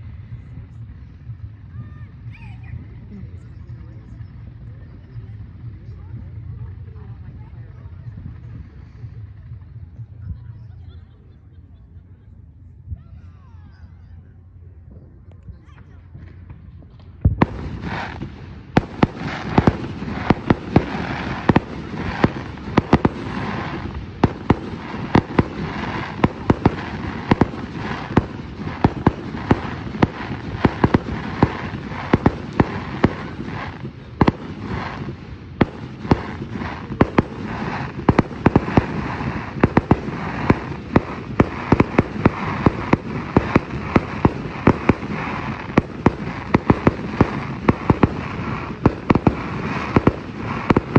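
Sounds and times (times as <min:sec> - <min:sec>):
fireworks popping and crackling: 0:00.0 - 0:13.0, 0:14.8 - 0:50.9.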